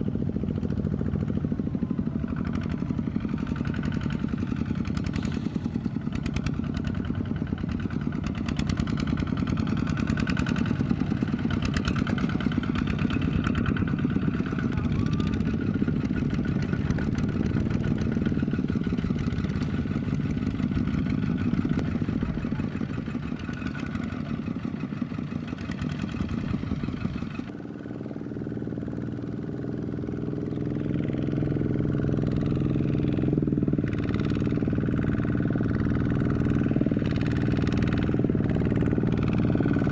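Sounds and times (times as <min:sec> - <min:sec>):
power tiller engine running: 0:00.0 - 0:39.9.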